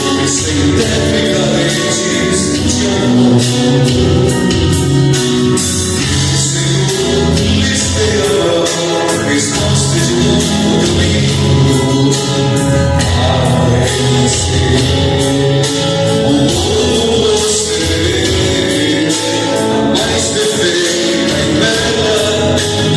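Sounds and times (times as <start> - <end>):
band playing: 0.0 - 22.9
people singing worship song: 0.0 - 22.9.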